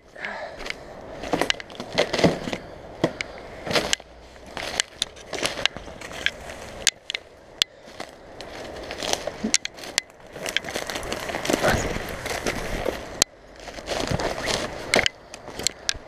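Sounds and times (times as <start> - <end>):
footsteps crunching dry twigs: 0.0 - 16.0.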